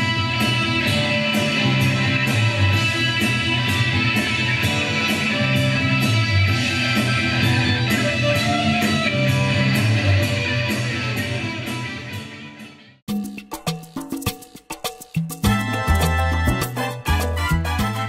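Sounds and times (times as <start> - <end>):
live rock band playing: 0.0 - 12.9, 15.4 - 18.0.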